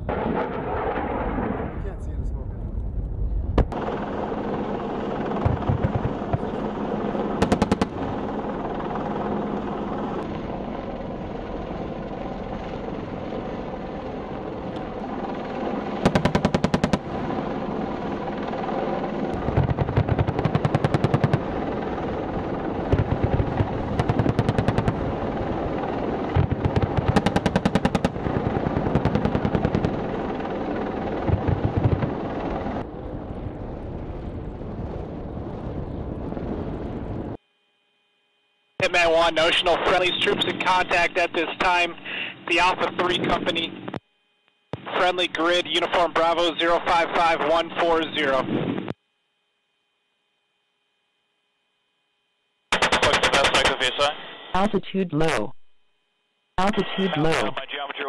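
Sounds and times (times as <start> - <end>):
helicopter rotor and engine: 3.6 - 37.4, 38.8 - 44.0, 44.8 - 49.0, 52.7 - 55.4, 56.6 - 58.0.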